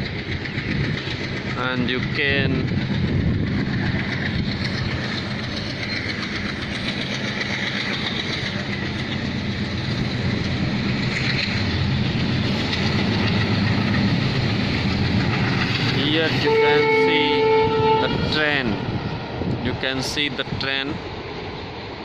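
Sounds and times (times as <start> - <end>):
train running on track: 0.0 - 22.0.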